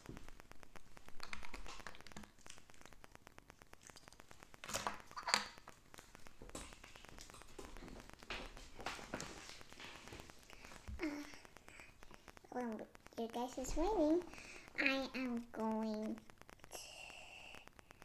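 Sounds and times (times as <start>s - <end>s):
plastic toys taps and clicks: 0.0s - 16.8s.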